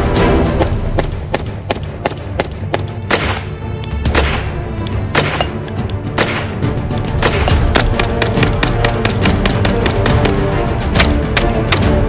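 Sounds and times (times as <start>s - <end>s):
gunshots: 1.0s - 12.0s.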